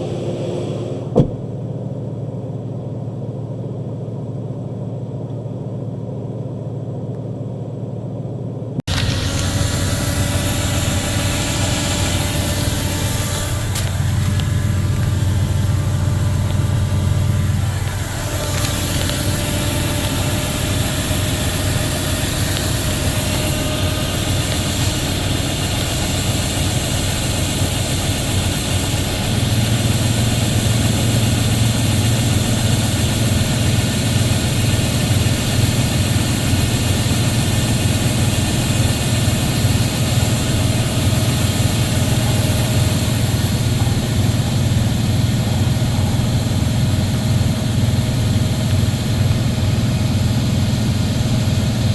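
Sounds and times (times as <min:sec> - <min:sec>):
combine harvester engine hum: 0:00.0 - 0:51.9.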